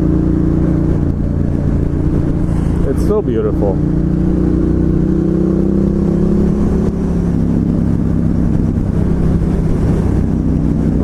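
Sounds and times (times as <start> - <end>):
motorcycle engine cruising: 0.0 - 11.0
wind on microphone: 0.0 - 11.0.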